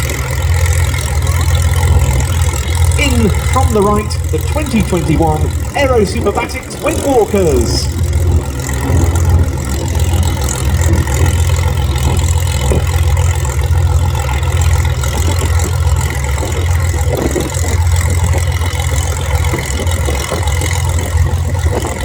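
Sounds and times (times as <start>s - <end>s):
biplane engine drone: 0.0s - 22.0s.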